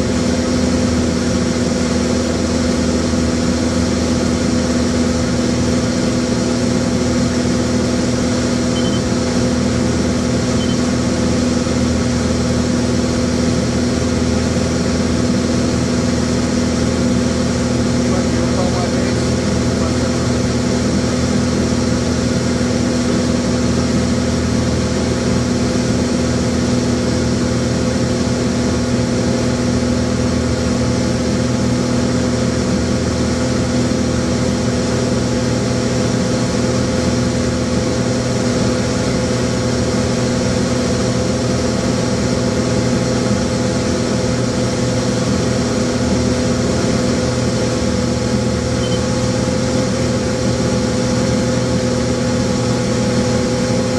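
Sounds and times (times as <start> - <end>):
light aircraft engine droning: 0.0 - 53.9.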